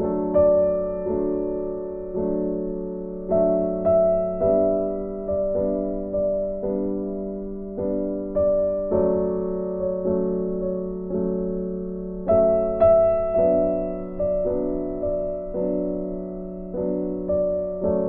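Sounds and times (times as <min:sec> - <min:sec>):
soft slow piano chords: 0:00.0 - 0:18.0.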